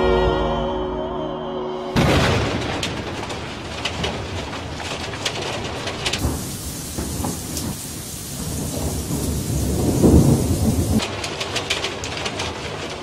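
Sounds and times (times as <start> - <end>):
low rumble of thunder: 2.0 - 13.0
steady rain: 2.0 - 13.0.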